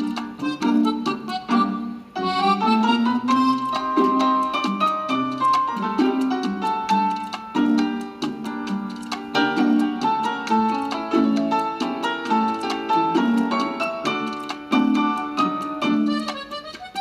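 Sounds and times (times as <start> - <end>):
bouncy plucked-string music: 0.0 - 17.0.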